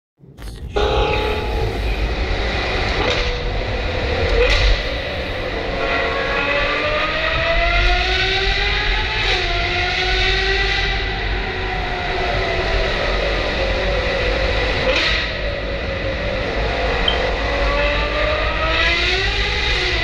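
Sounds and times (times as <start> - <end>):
car engine accelerating: 0.2 - 20.0
low road rumble echoing: 0.2 - 20.0.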